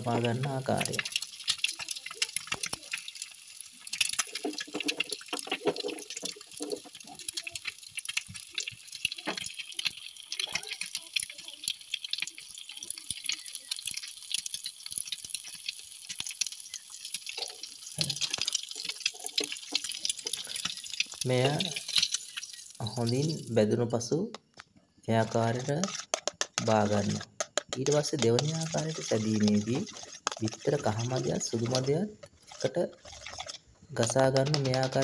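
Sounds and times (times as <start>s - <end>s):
eggs sizzling in a pan: 0.0s - 35.0s.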